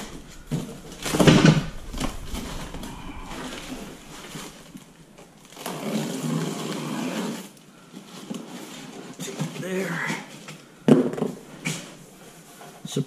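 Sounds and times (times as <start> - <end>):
cardboard scraping and rustling: 0.0 - 10.5.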